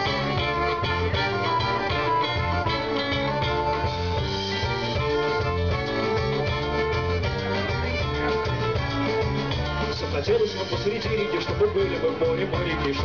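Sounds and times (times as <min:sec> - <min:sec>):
electric guitar: 0:00.0 - 0:13.0
steady rhythmic bass line: 0:00.0 - 0:13.0.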